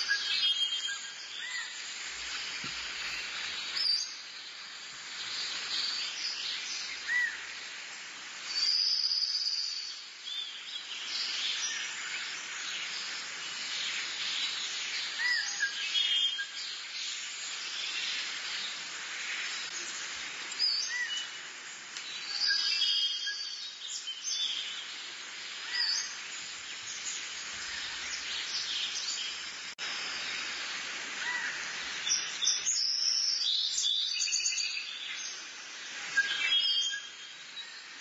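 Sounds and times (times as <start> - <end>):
many birds chirping: 0.0 - 38.0
steady hiss: 0.0 - 38.0.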